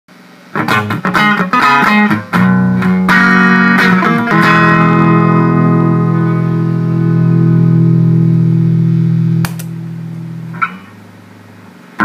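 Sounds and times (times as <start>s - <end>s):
distorted electric guitar chords: 0.5s - 11.2s.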